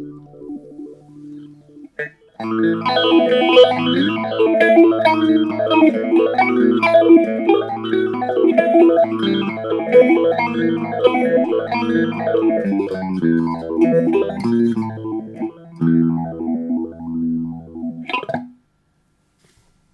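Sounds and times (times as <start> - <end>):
electric guitar chords with phaser: 0.0 - 18.6.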